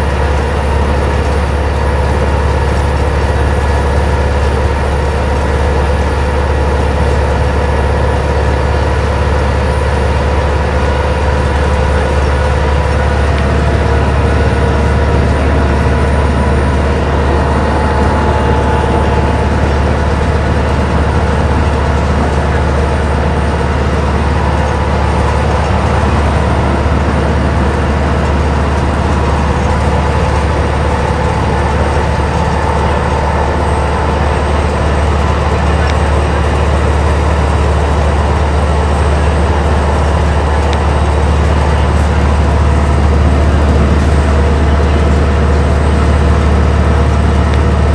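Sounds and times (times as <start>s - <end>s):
diesel bus engine droning: 0.0s - 47.9s
road and tyre noise: 0.0s - 47.9s.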